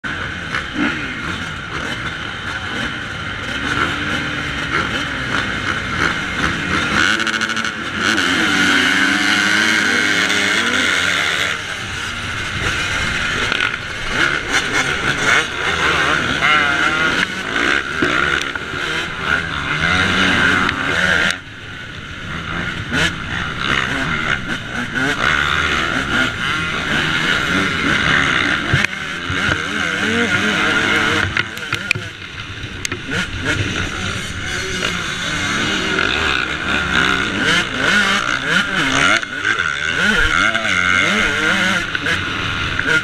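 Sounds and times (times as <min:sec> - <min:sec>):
dirt bike engines: 0:00.0 - 0:43.0
motocross engine revving: 0:00.0 - 0:43.0.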